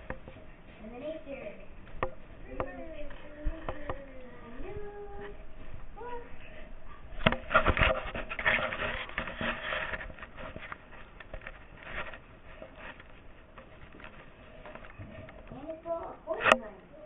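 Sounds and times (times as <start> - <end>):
rubbing and rustling: 0.0 - 16.9.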